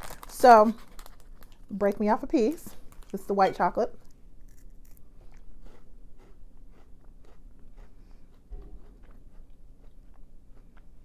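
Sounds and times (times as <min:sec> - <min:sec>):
crunching of chocolate wafer: 0:00.0 - 0:02.0, 0:04.0 - 0:10.9.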